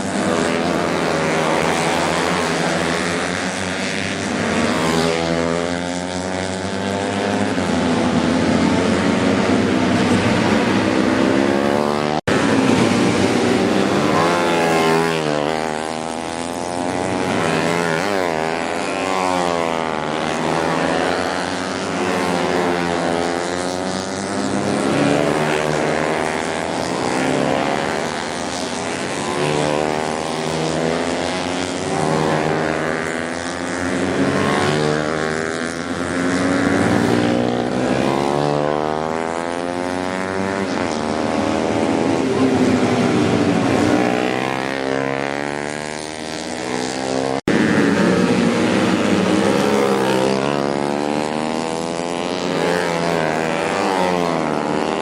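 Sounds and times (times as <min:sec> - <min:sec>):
race motorcycles revving: 0:00.0 - 0:55.0.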